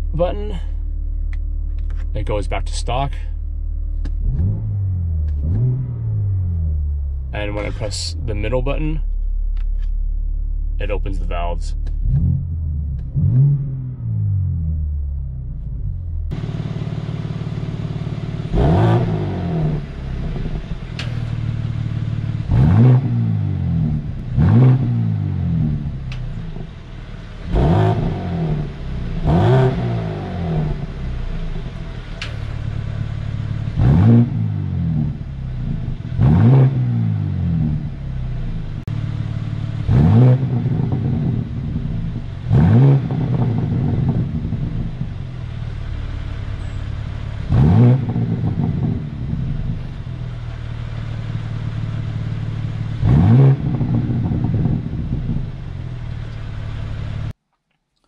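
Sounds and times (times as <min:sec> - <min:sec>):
car engine revving: 0:00.0 - 0:57.4.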